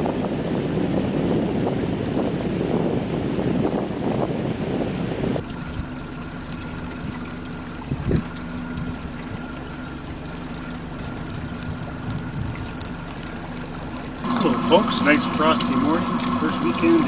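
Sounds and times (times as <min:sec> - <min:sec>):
boat motor humming: 0:00.0 - 0:17.0
wind buffeting microphone: 0:00.0 - 0:17.0.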